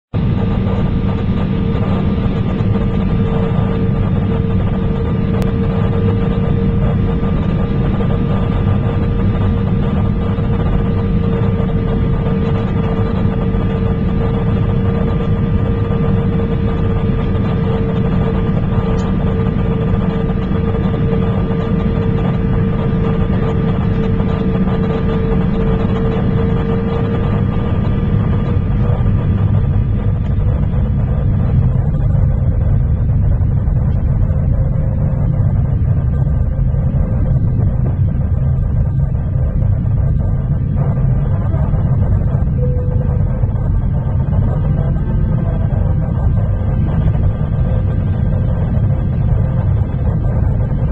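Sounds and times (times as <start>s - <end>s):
constant engine whine: 0.0s - 50.9s
jet cabin rumble and hiss: 0.2s - 50.9s.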